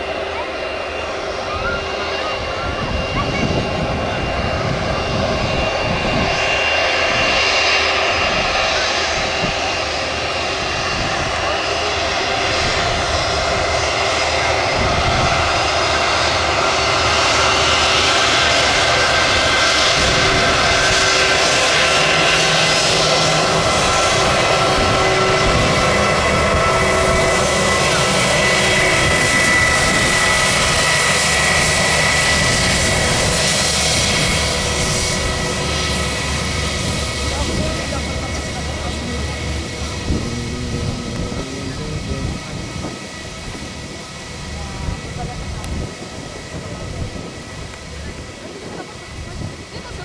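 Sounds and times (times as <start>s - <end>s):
high engine whine: 0.0s - 50.0s
jet engines roaring on takeoff: 0.0s - 50.0s.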